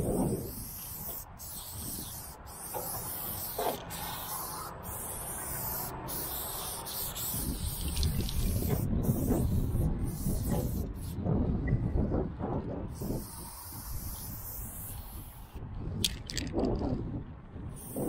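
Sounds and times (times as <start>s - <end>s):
spray paint can hissing: 0.0s - 11.2s, 12.9s - 16.8s, 17.8s - 18.0s.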